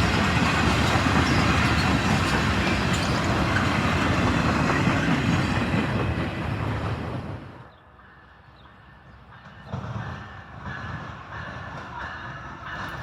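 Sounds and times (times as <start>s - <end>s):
train rolling on rails: 0.0s - 13.0s.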